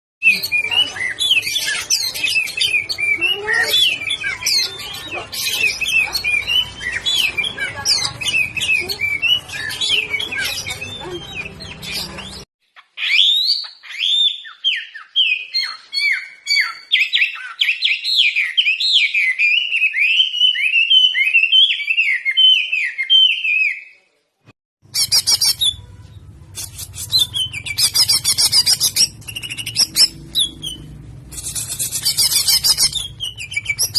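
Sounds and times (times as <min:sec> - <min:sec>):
songbirds chirping and singing: 0:00.2 - 0:24.0, 0:24.9 - 0:33.9.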